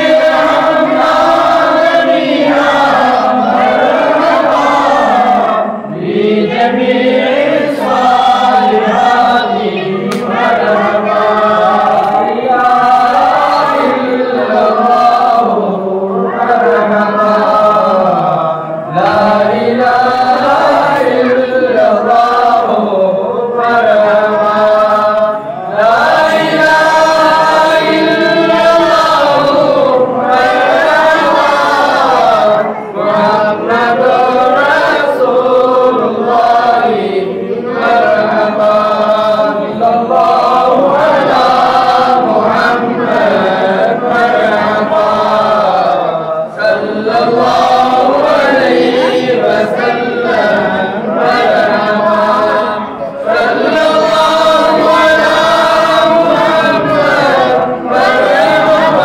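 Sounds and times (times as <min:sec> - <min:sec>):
men chanting in chorus: 0:00.0 - 0:59.0.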